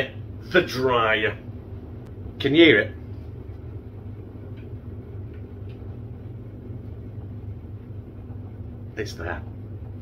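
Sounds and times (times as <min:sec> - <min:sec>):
tumble dryer humming and rumbling: 0:00.0 - 0:10.0.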